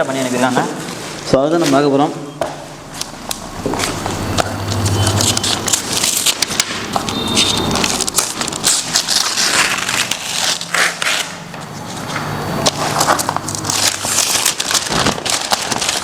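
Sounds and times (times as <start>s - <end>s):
packaging crackling and crunching: 2.8s - 16.0s.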